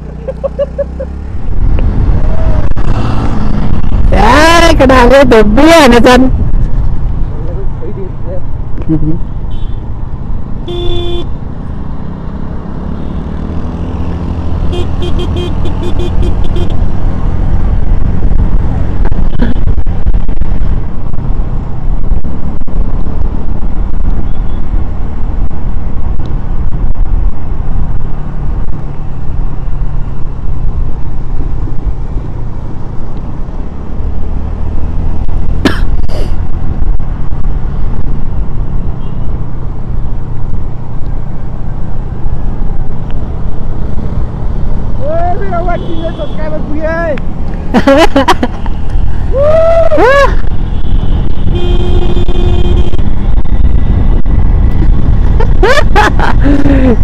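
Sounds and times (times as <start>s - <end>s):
vehicle rumbling: 0.0s - 57.0s.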